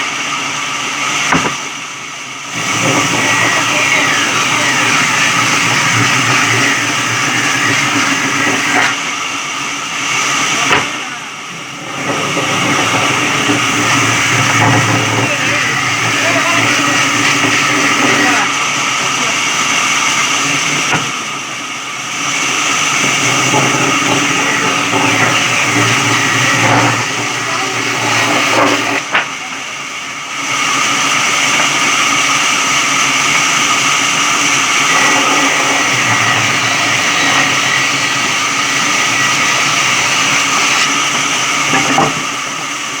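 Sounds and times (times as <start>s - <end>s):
electric saw whining: 2.4s - 43.0s.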